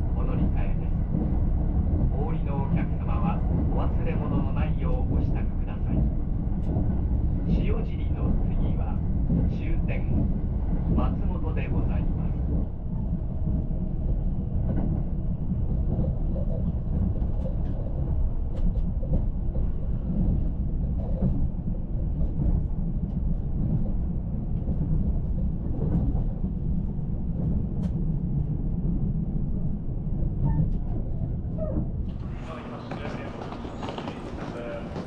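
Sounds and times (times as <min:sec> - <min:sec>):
train running low rumble: 0:00.0 - 0:35.0.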